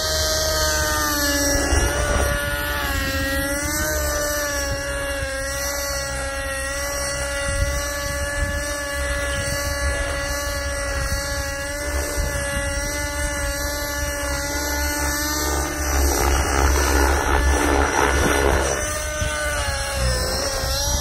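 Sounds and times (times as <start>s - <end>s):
model helicopter engine whine: 0.0s - 21.0s.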